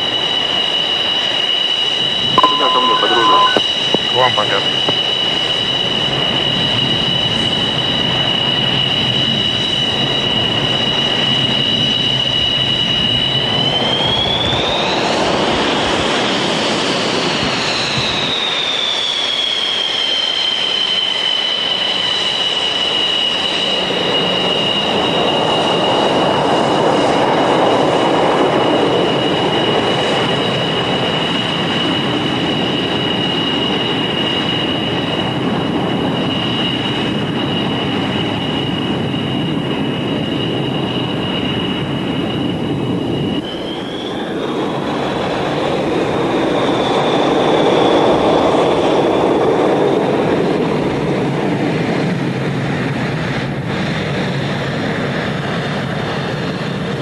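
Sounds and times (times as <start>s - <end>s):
jet engine rushing roar: 0.0s - 57.0s
jet engine turbine whine: 0.0s - 57.0s.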